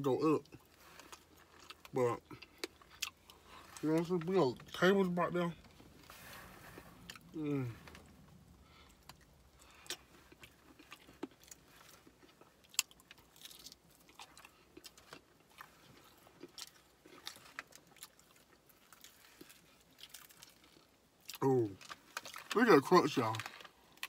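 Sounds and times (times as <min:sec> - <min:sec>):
chewing crispy fried chicken: 0:00.1 - 0:24.0.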